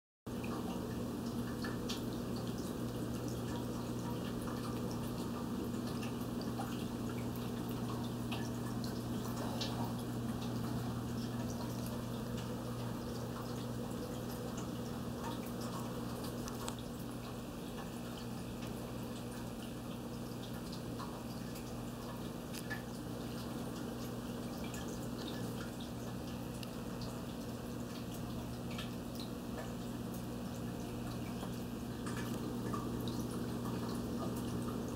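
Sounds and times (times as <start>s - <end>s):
aquarium filter humming: 0.3s - 34.9s
water trickling and dripping: 0.3s - 34.9s.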